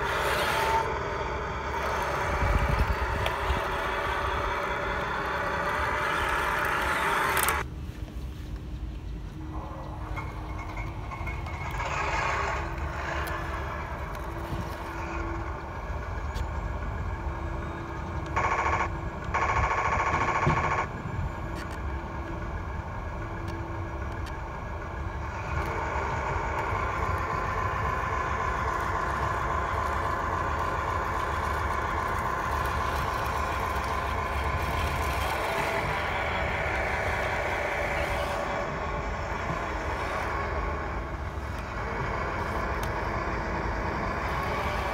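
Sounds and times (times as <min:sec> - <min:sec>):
toy tank motors whining: 0:00.0 - 0:07.7, 0:09.5 - 0:44.9.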